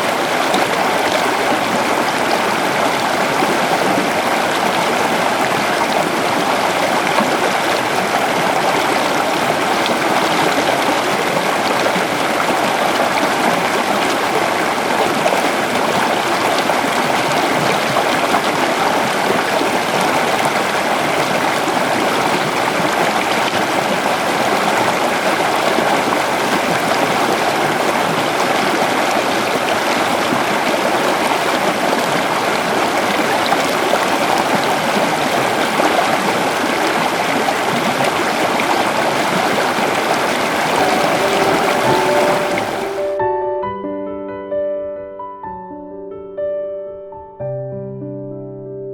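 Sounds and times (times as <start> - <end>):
river flowing over stones: 0.0 - 43.2.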